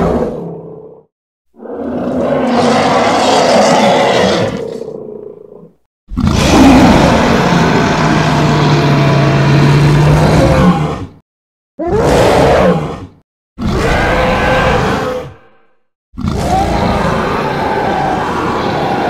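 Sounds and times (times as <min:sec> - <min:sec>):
monster gorilla roar: 0:00.0 - 0:11.2, 0:11.8 - 0:15.6, 0:16.2 - 0:19.0.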